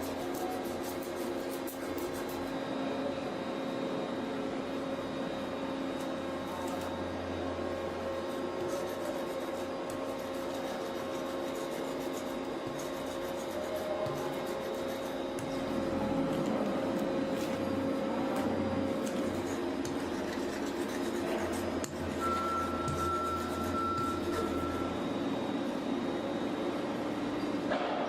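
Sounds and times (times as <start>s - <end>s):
machine humming: 0.0s - 27.8s.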